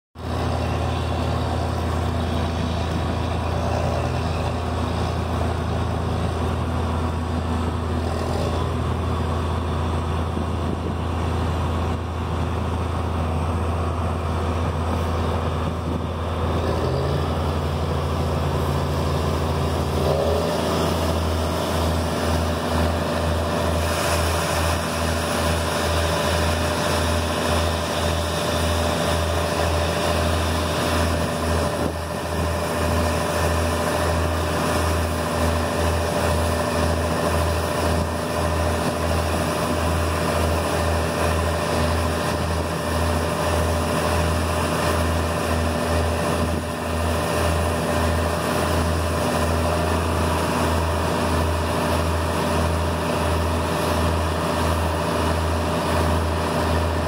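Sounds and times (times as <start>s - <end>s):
tractor diesel engine droning: 0.2s - 57.0s.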